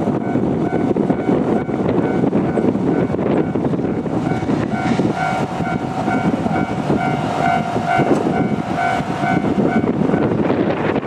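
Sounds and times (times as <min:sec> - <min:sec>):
level crossing warning bell: 0:00.0 - 0:10.3.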